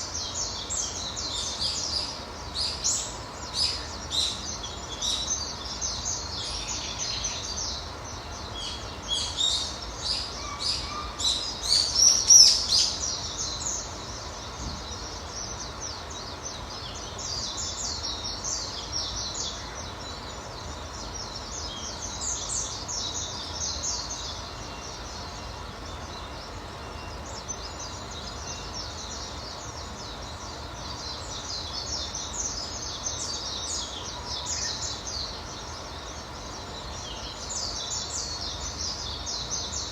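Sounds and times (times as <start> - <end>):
outdoor background noise: 0.0 - 39.9
small birds chirping and twittering: 0.0 - 39.9.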